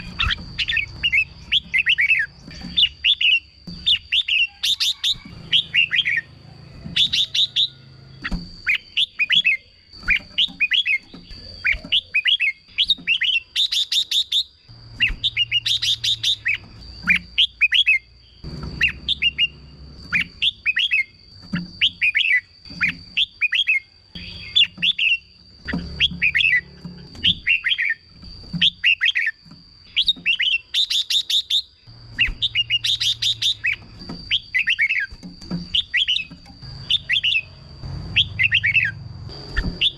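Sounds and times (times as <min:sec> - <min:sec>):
bird warbling song: 0:00.0 - 0:39.9
steady high-pitched whine: 0:00.0 - 0:39.9.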